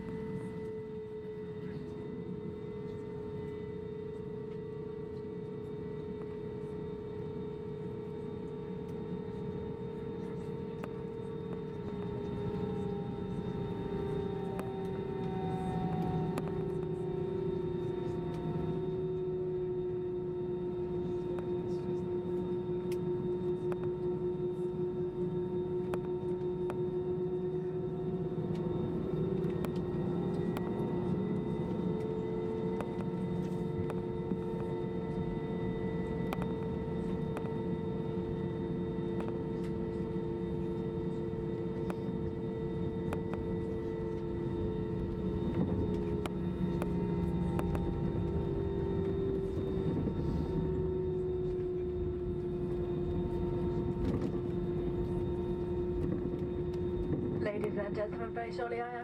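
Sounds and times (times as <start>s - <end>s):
jet engine drone with whine: 0.0s - 59.0s.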